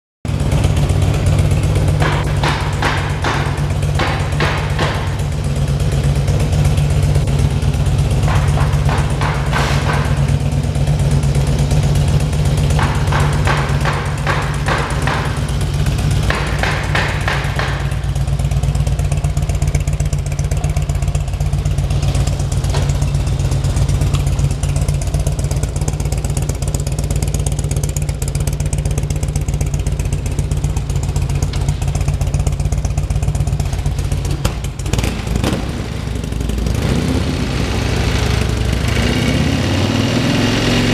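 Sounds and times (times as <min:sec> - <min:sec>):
motorcycle engine idling: 0:00.3 - 0:40.9.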